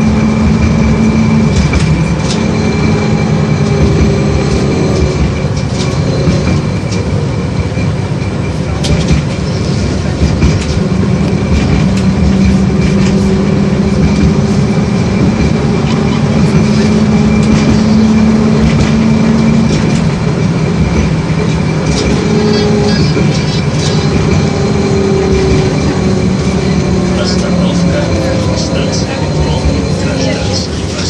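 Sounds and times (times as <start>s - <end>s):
low motor hum: 0.0s - 31.0s
rail clicks: 0.0s - 31.0s
tram wheels rumbling on rails: 0.0s - 31.0s.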